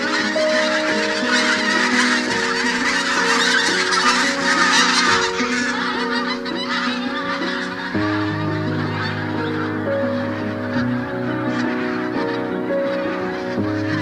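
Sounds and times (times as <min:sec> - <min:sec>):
background music of sustained notes: 0:00.0 - 0:14.0
geese honking: 0:00.0 - 0:14.0.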